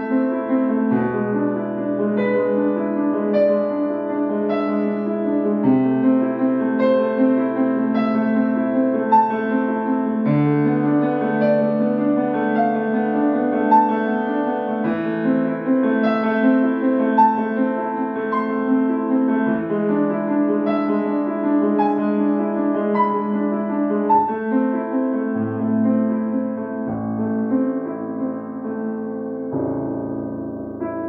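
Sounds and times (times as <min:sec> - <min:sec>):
solo grand piano melody: 0:00.0 - 0:31.0.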